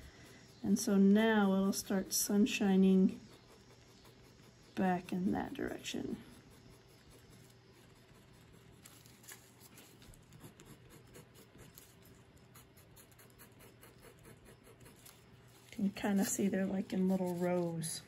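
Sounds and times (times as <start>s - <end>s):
skewer scratching on paper: 3.1s - 17.8s.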